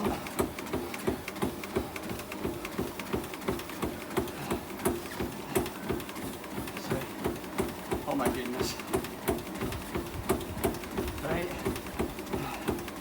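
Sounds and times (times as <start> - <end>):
running footfalls on a treadmill: 0.0 - 13.0.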